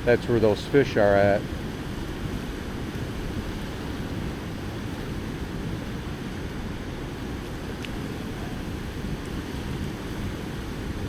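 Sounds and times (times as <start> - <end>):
fast-flowing river rushing: 0.0 - 11.0
wind rumbling on microphone: 0.0 - 11.0.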